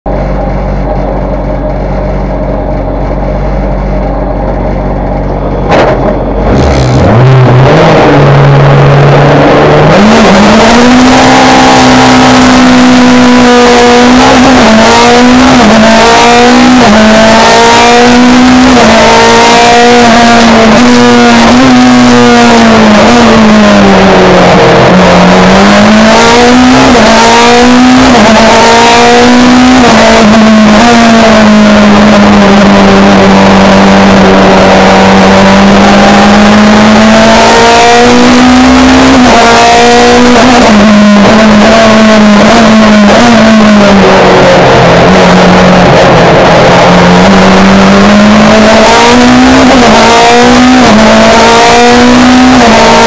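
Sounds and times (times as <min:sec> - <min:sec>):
race car engine revving: 0:00.1 - 0:53.0.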